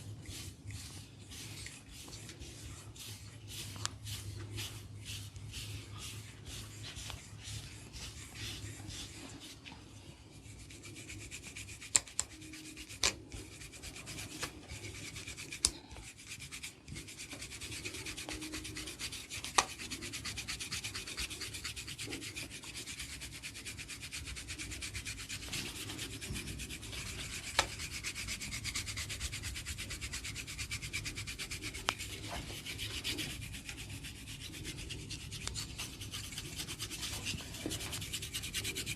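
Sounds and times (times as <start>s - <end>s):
hands rubbing scalp and hair: 0.0s - 38.9s.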